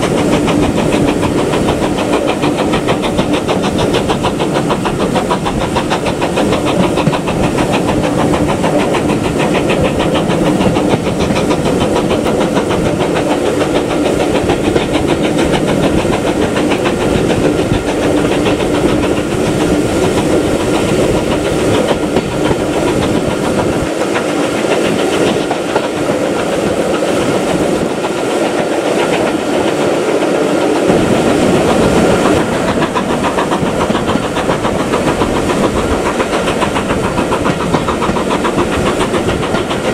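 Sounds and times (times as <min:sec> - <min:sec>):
rails and carriages rattling: 0:00.0 - 0:39.9
steam train rumble and hiss: 0:00.0 - 0:39.9.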